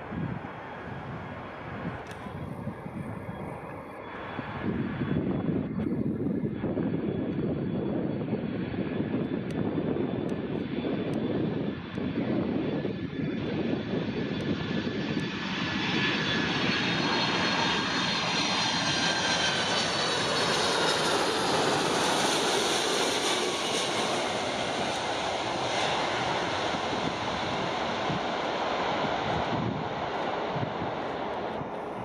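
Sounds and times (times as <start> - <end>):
jet engines roaring overhead: 0.0 - 32.0.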